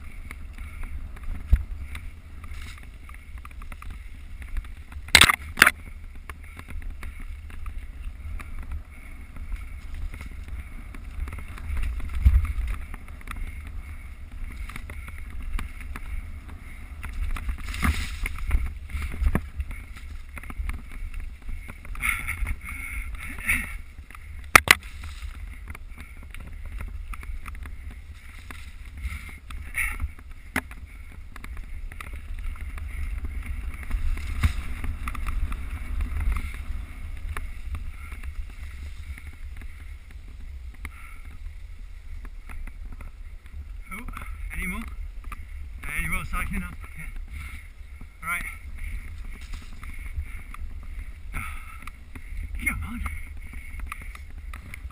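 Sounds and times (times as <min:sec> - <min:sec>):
bike knocks and rattles: 0:00.0 - 0:54.9
wind rumble on microphone: 0:00.0 - 0:54.9.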